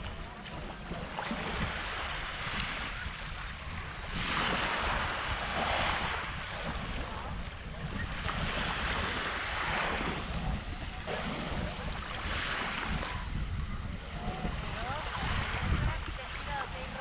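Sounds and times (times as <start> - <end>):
small waves lapping on shore: 0.0 - 17.0
wind rumble on microphone: 0.0 - 17.0.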